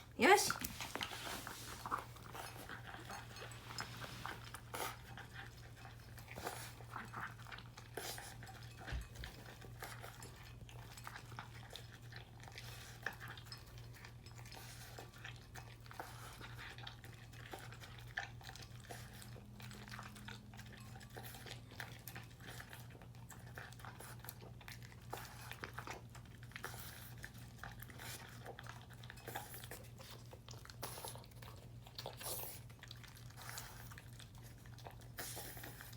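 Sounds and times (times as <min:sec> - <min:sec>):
puppy eating from a bowl: 0:00.0 - 0:35.9.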